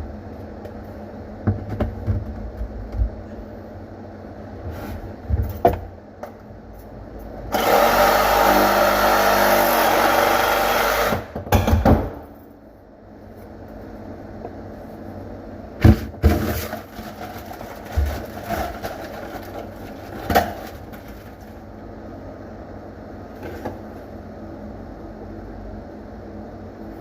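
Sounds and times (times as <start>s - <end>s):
steady low hum: 0.0s - 7.6s, 10.9s - 27.0s.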